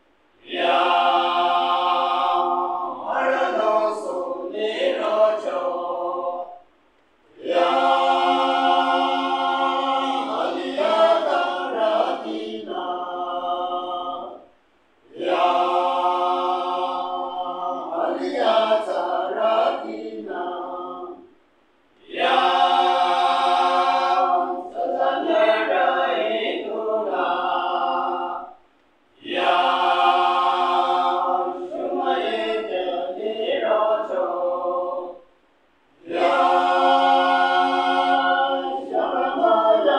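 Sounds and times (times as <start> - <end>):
men's choir singing a cappella: 0.4 - 6.6, 7.3 - 21.4, 22.0 - 28.6, 29.2 - 35.3, 36.0 - 39.9.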